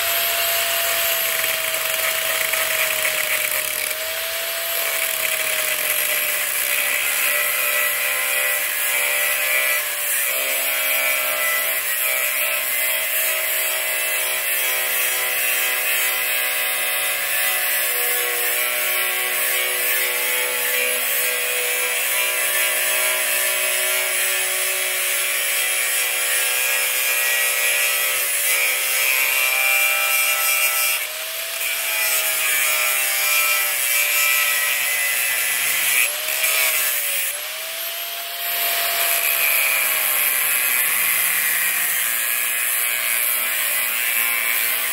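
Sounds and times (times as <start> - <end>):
angle grinder cutting steel: 0.0 - 44.9.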